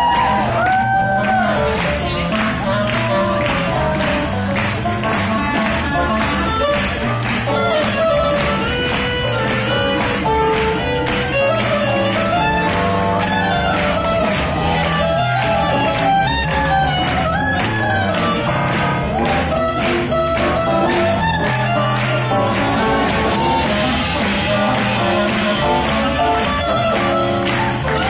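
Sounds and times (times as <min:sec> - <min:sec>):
swing jazz music: 0:00.0 - 0:28.0.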